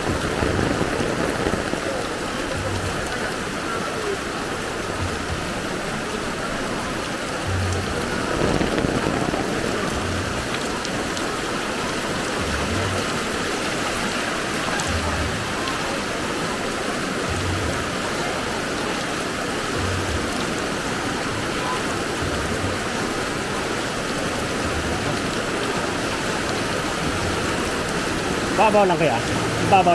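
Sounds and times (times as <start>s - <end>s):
floodwater rushing: 0.0s - 29.9s
heavy rain falling: 0.0s - 29.9s.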